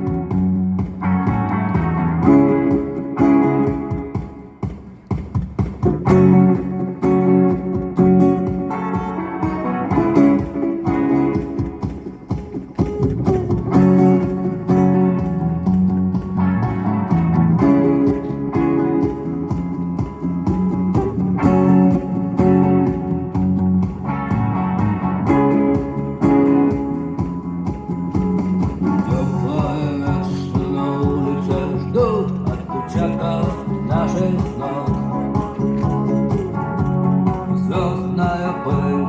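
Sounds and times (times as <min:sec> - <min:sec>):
electric guitar strumming chords: 0:00.0 - 0:39.0.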